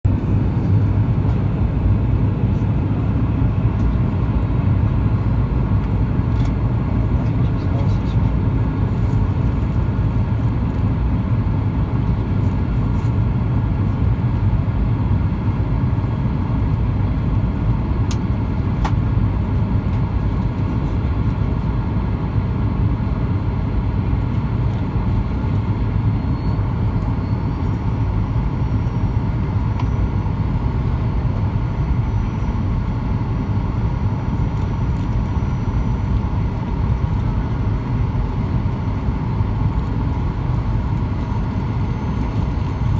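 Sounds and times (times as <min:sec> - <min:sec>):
aircraft cabin rumble: 0:00.1 - 0:42.9.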